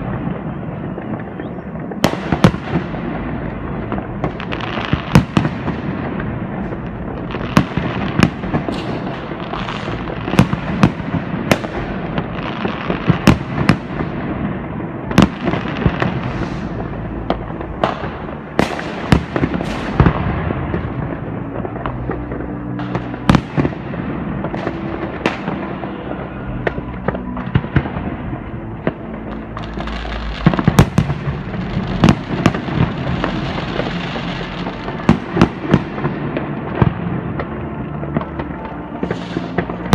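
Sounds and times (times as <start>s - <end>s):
firecrackers crackling: 0.0s - 39.9s
fireworks bangs: 0.0s - 39.9s.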